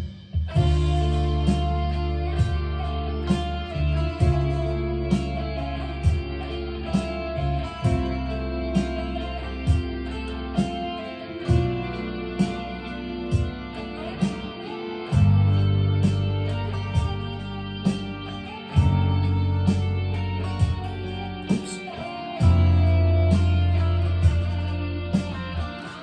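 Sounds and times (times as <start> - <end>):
bass: 0.0 - 26.0
drums on steady beat: 0.0 - 26.0
electric guitar: 0.0 - 26.0.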